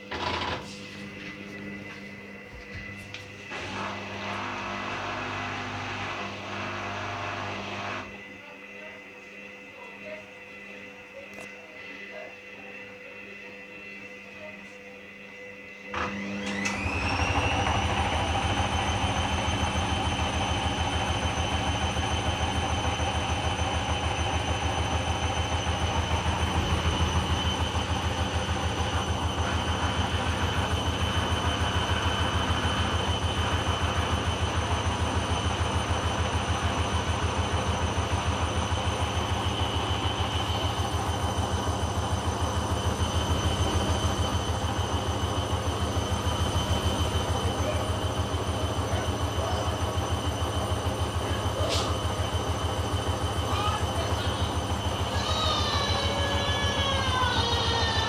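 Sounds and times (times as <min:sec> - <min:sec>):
washing machine motor whine: 0:00.0 - 0:58.0.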